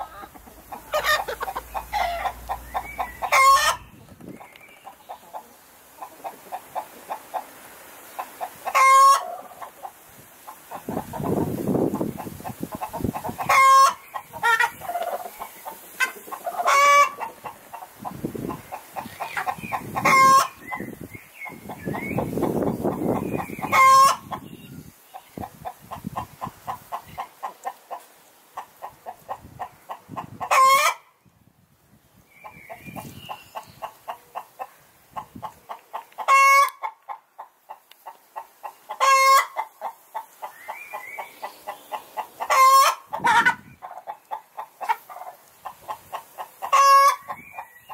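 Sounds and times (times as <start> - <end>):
chickens clucking: 0.0 - 31.2, 32.3 - 47.9.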